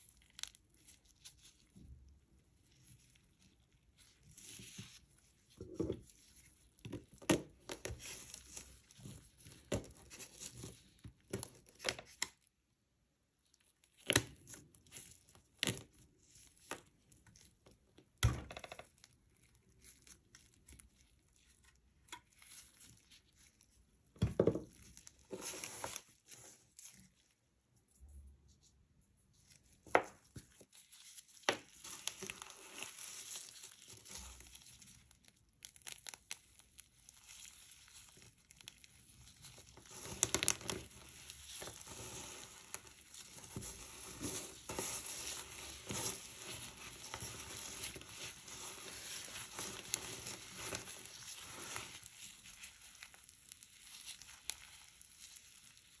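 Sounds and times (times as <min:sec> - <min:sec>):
frozen ice cream crackling and squishing: 0:00.0 - 0:56.0.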